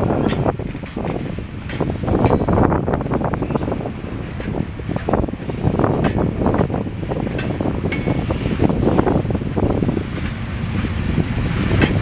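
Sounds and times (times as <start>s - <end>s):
train wheels clattering over rails: 0.0s - 12.0s
wind buffeting microphone: 0.0s - 12.0s.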